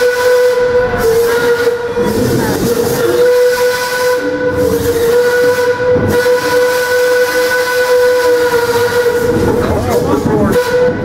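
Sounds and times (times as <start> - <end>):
steam locomotive whistle blast: 0.0 - 11.0.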